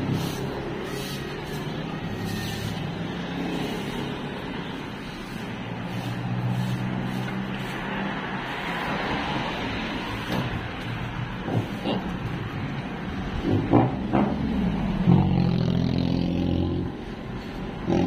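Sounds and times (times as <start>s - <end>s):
car engines on road: 0.0s - 18.0s
vehicle engine drone approaching: 0.0s - 18.0s.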